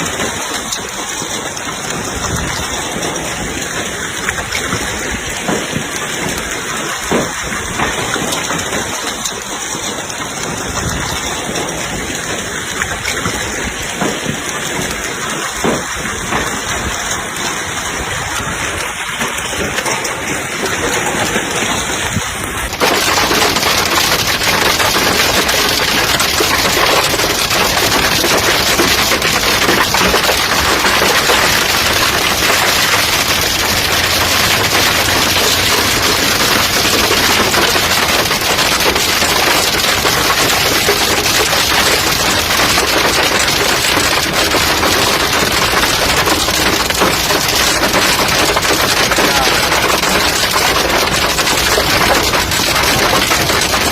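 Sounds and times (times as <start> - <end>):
heavy rain: 0.0 - 53.9
scattered knocks: 0.0 - 53.9.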